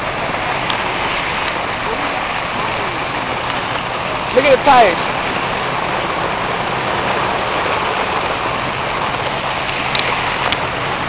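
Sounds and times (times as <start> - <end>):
floodwater rushing: 0.0 - 11.0
low engine hum: 0.0 - 11.0.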